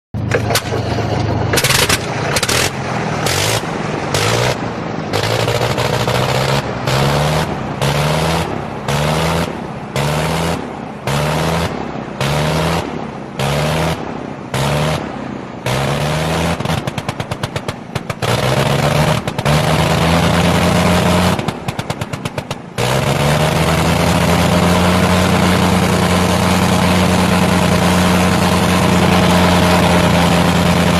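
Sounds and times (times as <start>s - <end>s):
rotary aircraft engine running: 0.2s - 30.9s.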